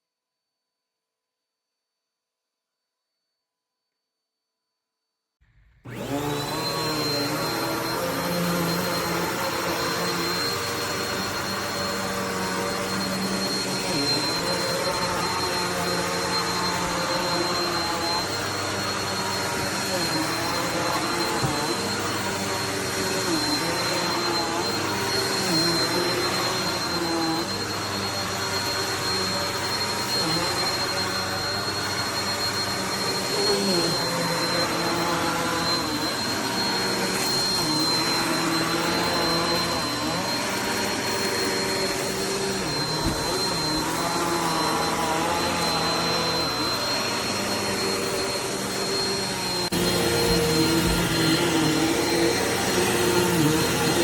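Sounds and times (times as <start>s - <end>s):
upright vacuum cleaner running: 5.4s - 54.0s.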